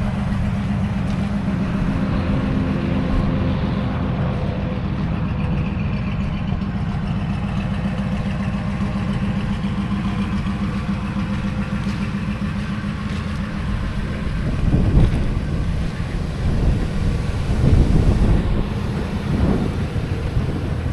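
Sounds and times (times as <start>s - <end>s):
pickup engine idling: 0.0s - 20.9s
wind buffeting microphone: 0.0s - 20.9s.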